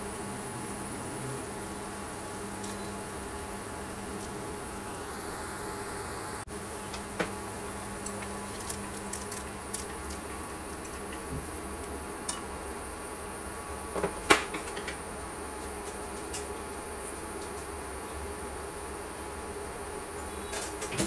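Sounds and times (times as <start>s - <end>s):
electrical buzz from cooker: 0.0s - 21.0s
water boiling in a pot: 0.0s - 21.0s.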